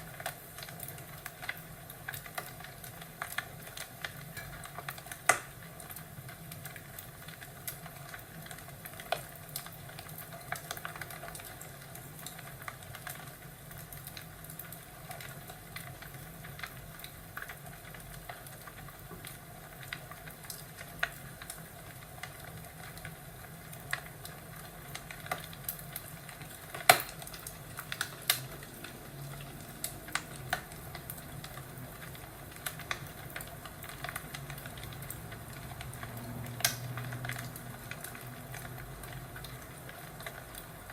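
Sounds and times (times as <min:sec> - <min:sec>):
fire popping and snapping: 0:00.0 - 0:40.9
fireplace crackling: 0:00.0 - 0:40.9.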